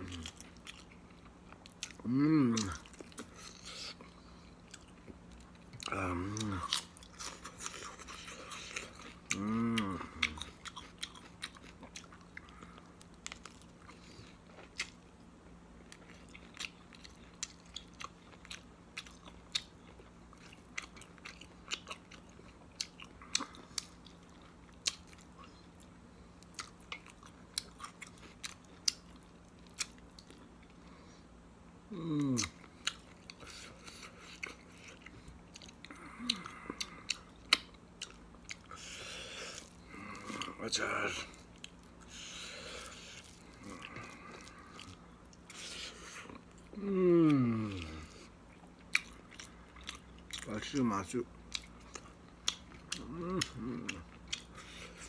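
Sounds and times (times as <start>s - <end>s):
chewing and mouth smacking: 0.0s - 15.1s, 15.8s - 30.9s, 32.3s - 55.0s
faint electrical hum: 0.0s - 55.0s.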